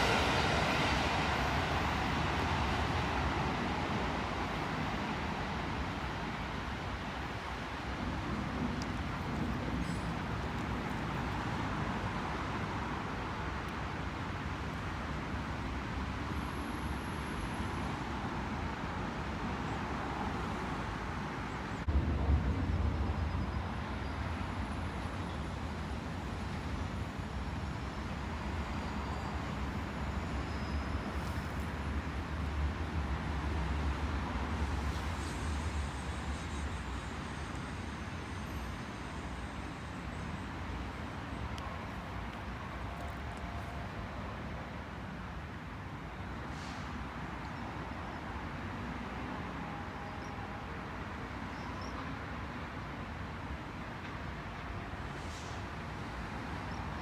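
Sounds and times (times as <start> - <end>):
train passing rumble and hiss: 0.0 - 57.0.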